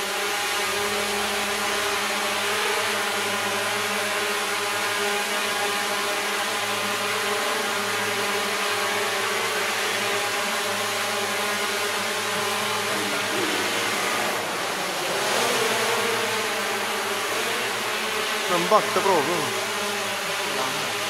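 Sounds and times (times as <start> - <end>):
drone motors buzzing whine: 0.0 - 21.0.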